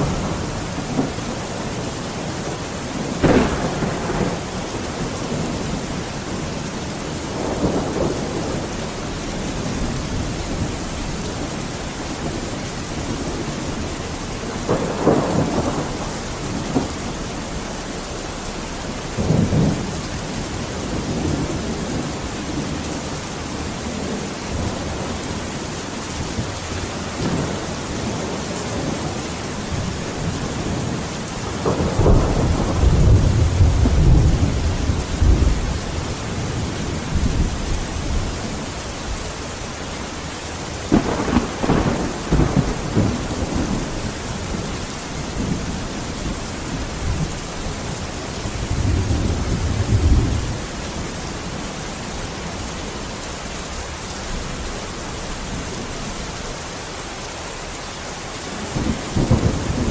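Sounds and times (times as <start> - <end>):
thunder rumbling: 0.0 - 53.0, 58.5 - 59.9
steady rain falling: 0.0 - 59.9.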